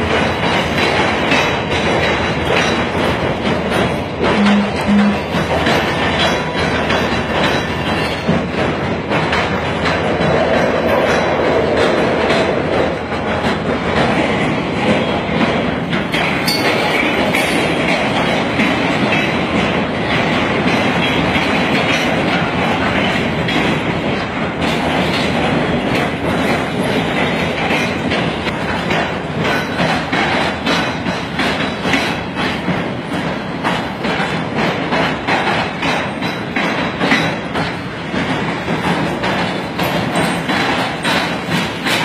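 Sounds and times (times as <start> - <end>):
steel wheels rumbling on rail: 0.0 - 42.0
wheels clacking over rail joints: 0.0 - 42.0.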